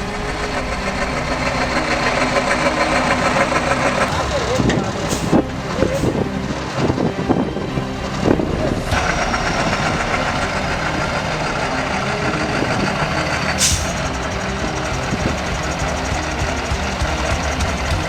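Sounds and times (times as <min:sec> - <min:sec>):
diesel truck engine knocking: 0:00.0 - 0:18.0.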